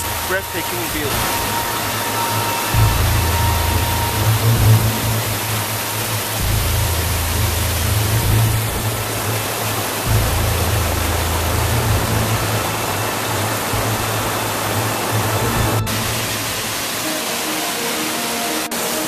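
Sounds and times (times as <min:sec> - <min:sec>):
waterfall rushing over rock: 0:00.0 - 0:19.0.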